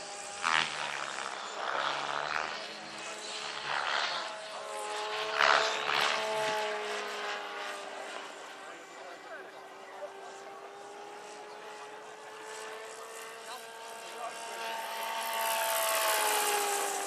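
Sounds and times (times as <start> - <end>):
model helicopter whine: 0.0 - 17.0
rotor blades swooshing: 0.0 - 17.0.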